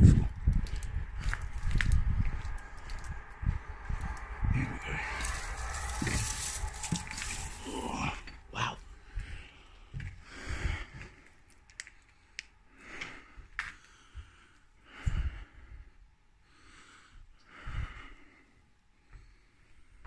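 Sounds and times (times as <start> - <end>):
person breathing close to microphone: 0.0 - 11.4, 12.2 - 20.0.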